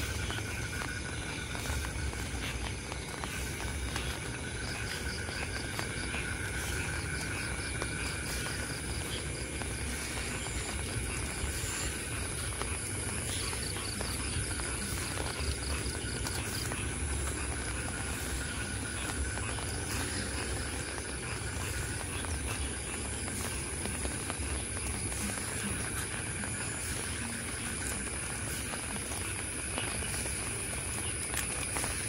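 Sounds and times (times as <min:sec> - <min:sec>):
crickets and night insects chirring: 0:00.0 - 0:32.0
drips ticking: 0:00.0 - 0:32.0
light rain falling: 0:00.0 - 0:32.0.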